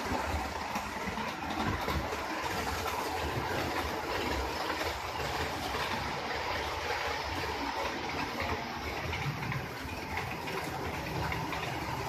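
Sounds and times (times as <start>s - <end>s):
model train wheels rolling: 0.0s - 12.0s.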